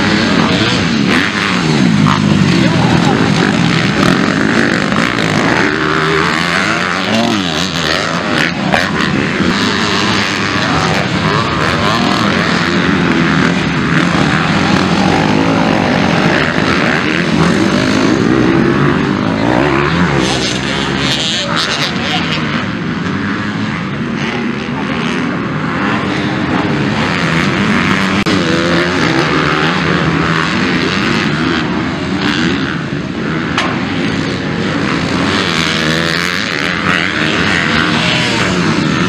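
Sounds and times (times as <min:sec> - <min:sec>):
motocross bikes revving: 0:00.0 - 0:39.0.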